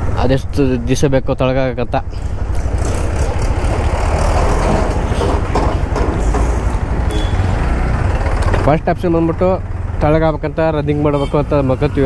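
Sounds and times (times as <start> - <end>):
road noise: 0.0 - 12.0
motorcycle engine rumble: 1.6 - 11.4.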